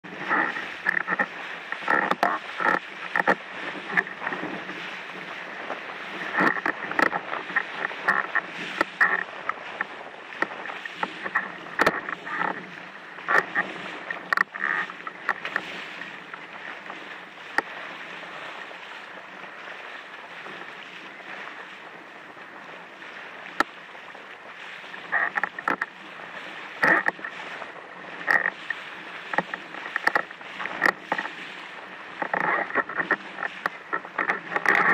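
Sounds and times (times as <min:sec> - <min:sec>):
water rushing and splashing: 0:00.0 - 0:34.9
waves slapping hull: 0:00.0 - 0:34.9.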